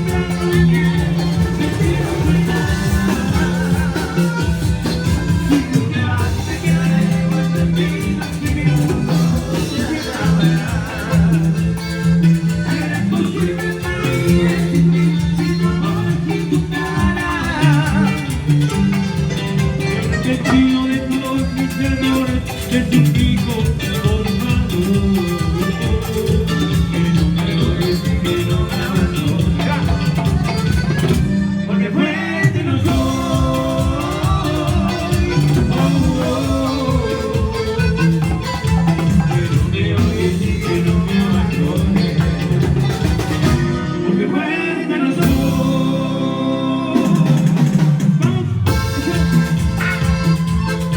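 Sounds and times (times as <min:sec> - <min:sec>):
band playing salsa music: 0:00.0 - 0:50.9
guitar: 0:00.0 - 0:50.9
person singing: 0:00.0 - 0:50.9.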